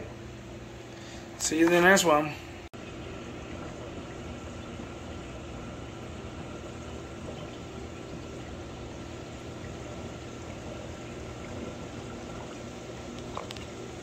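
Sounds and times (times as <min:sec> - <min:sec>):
low pump hum: 0:00.0 - 0:14.0
rushing circulating water: 0:02.6 - 0:14.0.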